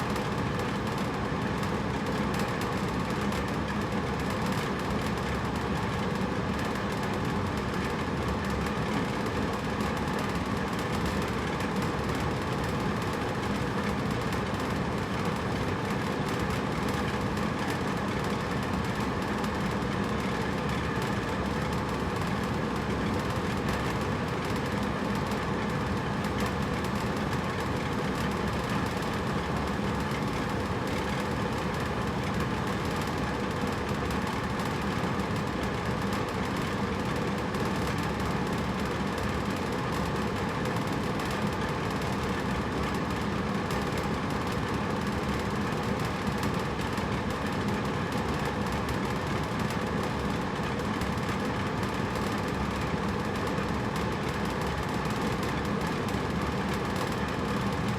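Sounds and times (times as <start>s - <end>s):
air conditioner running: 0.0s - 57.9s.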